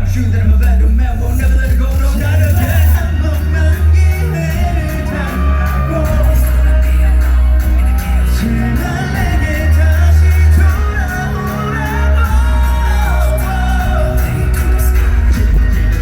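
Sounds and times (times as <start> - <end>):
heavy bass backing track: 0.0 - 16.0
man singing ballad: 0.0 - 16.0
crowd shouting: 2.6 - 16.0.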